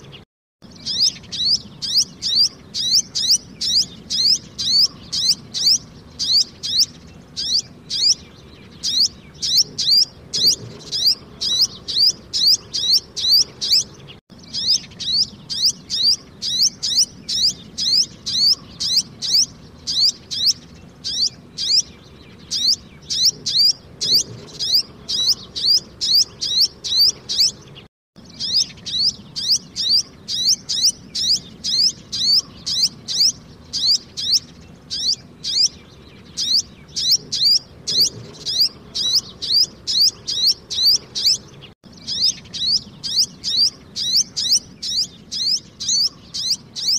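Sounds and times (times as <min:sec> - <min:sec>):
bird chirping: 0:00.0 - 0:46.9.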